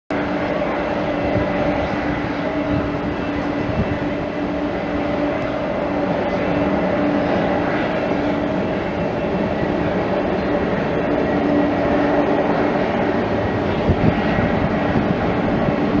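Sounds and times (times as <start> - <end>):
jet engines running: 0.1 - 16.0.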